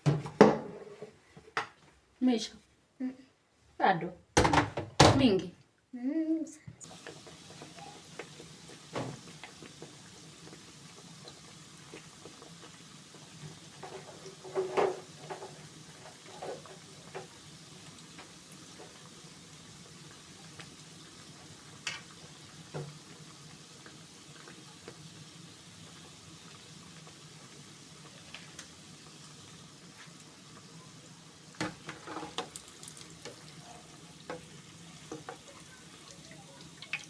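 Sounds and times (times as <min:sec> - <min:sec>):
dough sizzling in hot oil: 0:06.8 - 0:37.0.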